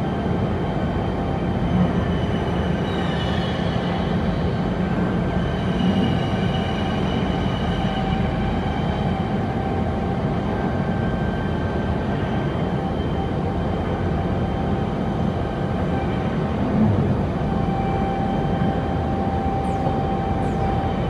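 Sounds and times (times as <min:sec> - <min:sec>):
faint high whines: 0:00.0 - 0:21.0.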